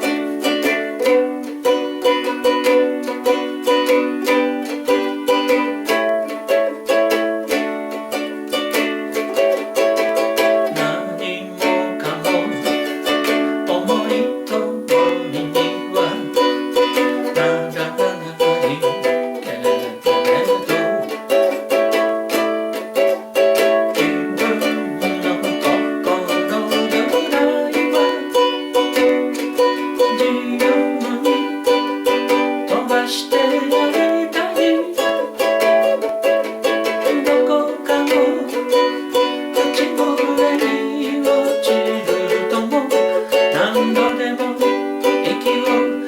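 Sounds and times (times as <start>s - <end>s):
ukulele strumming: 0.0s - 46.0s.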